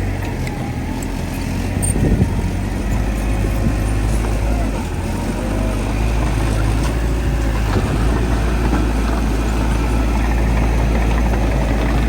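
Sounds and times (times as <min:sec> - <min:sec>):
heavy diesel machinery drone: 0:00.0 - 0:12.0.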